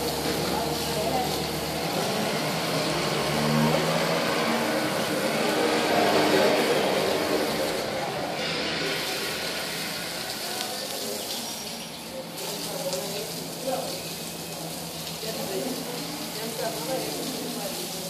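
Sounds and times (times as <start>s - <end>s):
hose spraying water on tiles: 0.0s - 18.0s.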